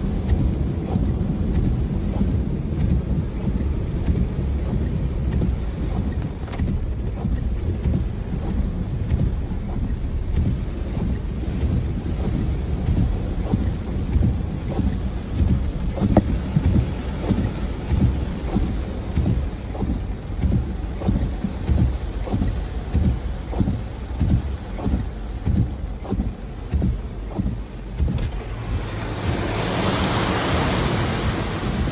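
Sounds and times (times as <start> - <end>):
heavy rain on car roof: 0.0 - 31.9.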